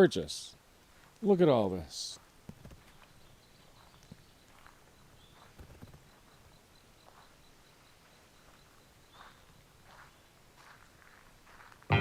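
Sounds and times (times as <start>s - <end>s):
faint footsteps: 0.6s - 1.4s, 2.1s - 12.0s.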